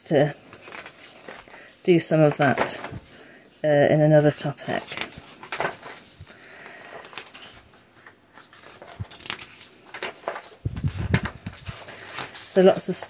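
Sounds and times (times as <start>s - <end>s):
paper pages turning: 0.3s - 1.7s, 2.3s - 3.2s, 4.2s - 13.0s.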